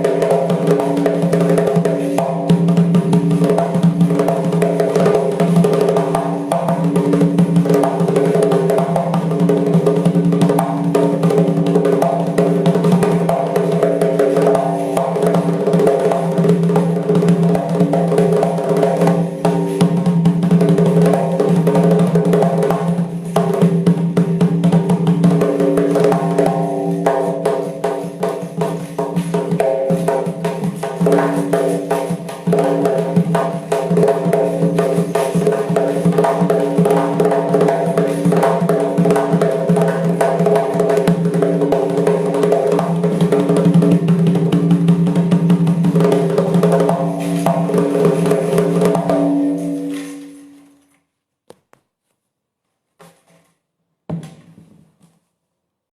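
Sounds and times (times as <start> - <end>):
frame drum fast rhythm: 0.0 - 50.2.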